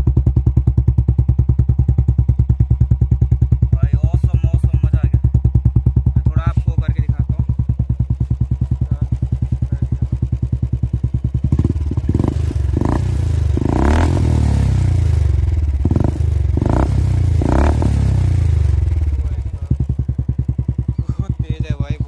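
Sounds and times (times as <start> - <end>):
loud exhaust engine idling and revving: 0.0 - 22.0.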